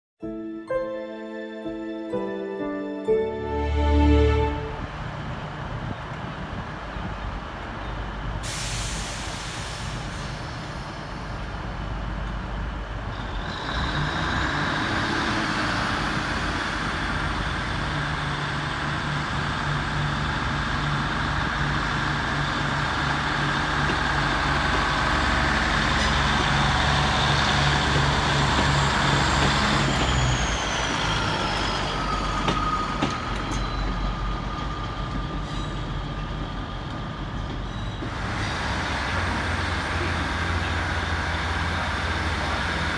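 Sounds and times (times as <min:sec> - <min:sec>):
diesel train engines: 0:02.1 - 0:42.9.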